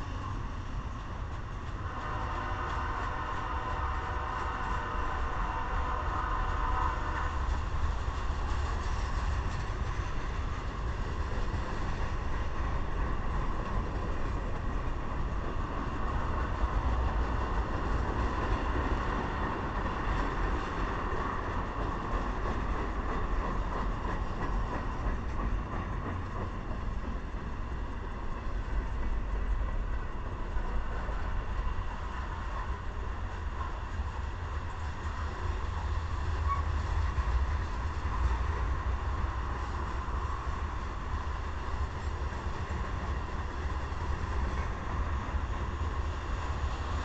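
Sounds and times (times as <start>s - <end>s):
freight train rolling past: 0.0s - 47.0s.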